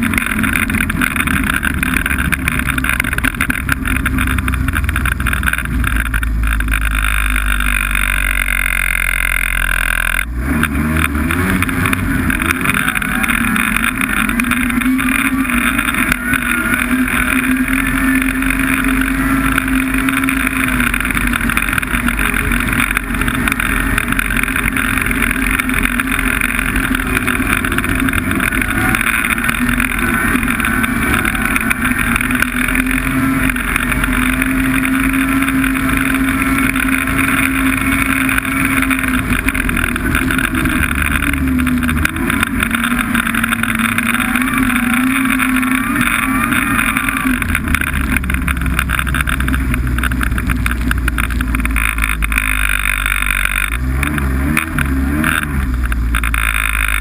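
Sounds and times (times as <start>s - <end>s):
constant rushing noise: 0.0s - 57.0s
snowmobile engine running: 0.0s - 57.0s.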